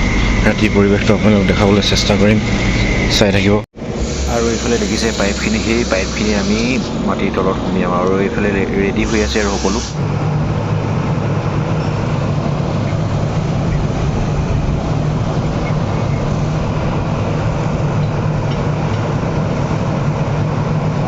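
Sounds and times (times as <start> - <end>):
heavy engine machinery droning: 0.0 - 21.0.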